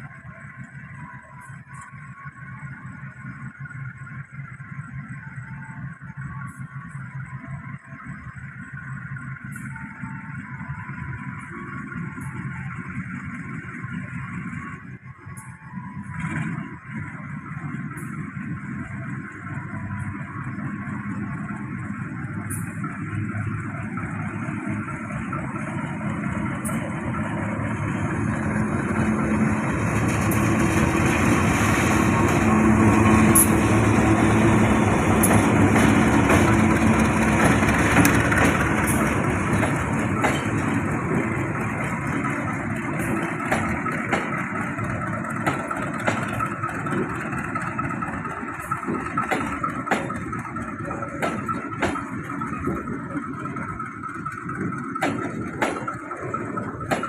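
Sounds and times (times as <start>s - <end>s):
train running: 0.0s - 57.0s.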